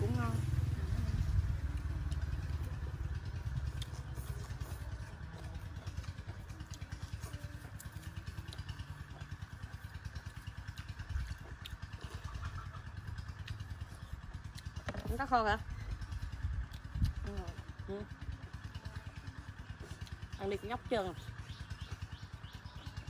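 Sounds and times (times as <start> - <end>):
small engine throbbing: 0.0 - 23.0.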